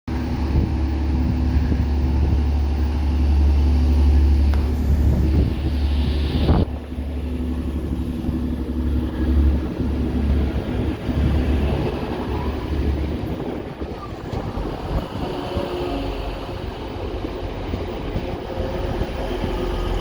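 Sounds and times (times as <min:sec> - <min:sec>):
gusty wind buffeting microphone: 0:00.1 - 0:20.0
steady engine hum: 0:00.1 - 0:20.0.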